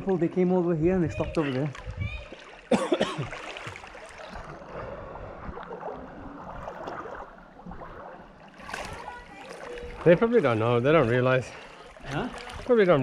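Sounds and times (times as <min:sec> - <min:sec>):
stream water splashing: 0:00.0 - 0:13.0.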